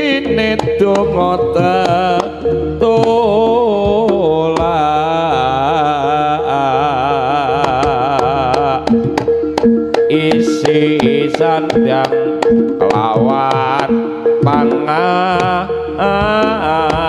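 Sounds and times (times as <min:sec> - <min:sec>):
drum strokes: 0:00.0 - 0:06.6, 0:07.2 - 0:17.0
steady held note: 0:00.0 - 0:17.0
wavering lead melody: 0:00.0 - 0:17.0.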